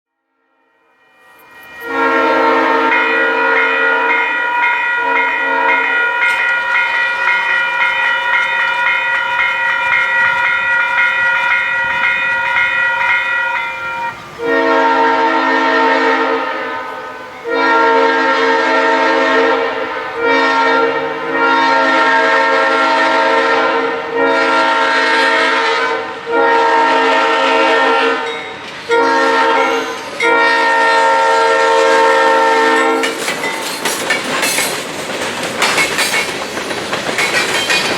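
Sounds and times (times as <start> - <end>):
locomotive air horns blowing: 0.9 - 33.4.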